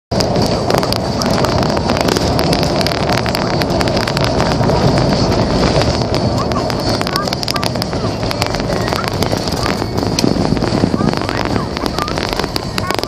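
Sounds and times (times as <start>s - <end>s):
car road and engine noise: 0.1s - 13.0s
wind: 0.1s - 13.0s.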